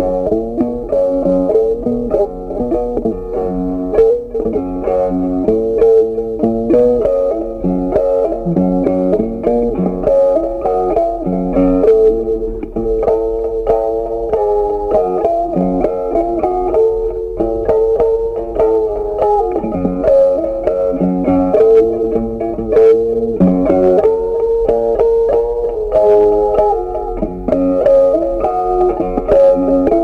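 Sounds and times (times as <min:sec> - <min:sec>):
plucked guitar playing: 0:00.0 - 0:30.0.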